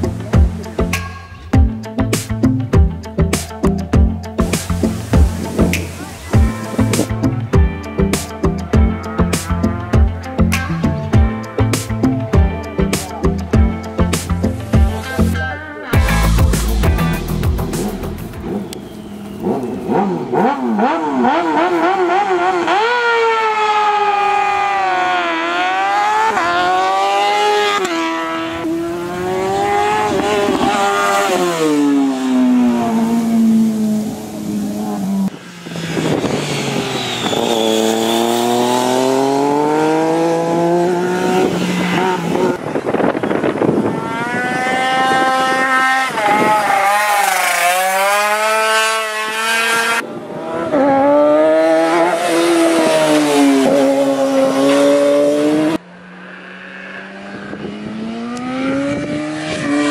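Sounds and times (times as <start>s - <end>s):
racing motorcycle engines revving: 0.0s - 12.4s, 13.1s - 59.9s.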